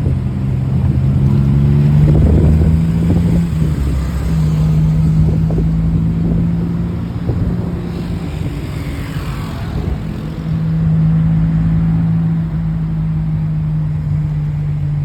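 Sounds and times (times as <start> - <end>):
passing vehicle sweeping down: 0.0 - 12.9
vehicle engine humming: 0.0 - 15.0.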